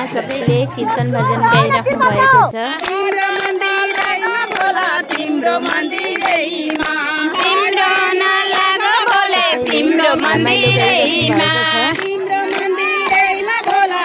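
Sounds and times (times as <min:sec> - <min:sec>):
hands clapping to a beat: 0:00.0 - 0:14.0
women singing devotional song: 0:00.0 - 0:14.0.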